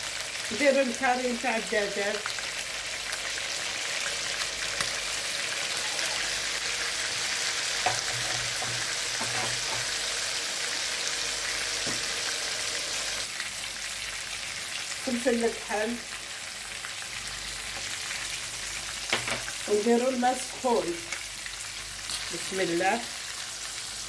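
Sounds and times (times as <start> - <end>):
chicken frying in hot oil: 0.0 - 24.0.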